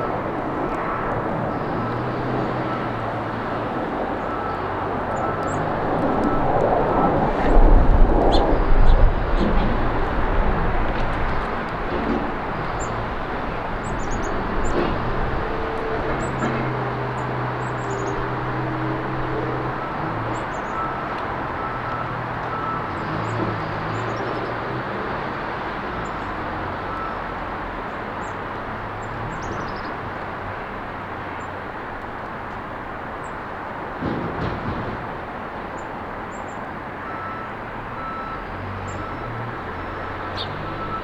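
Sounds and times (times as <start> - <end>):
vehicle engine humming past: 0.0 - 35.9, 37.6 - 41.0
road traffic noise: 0.0 - 41.0.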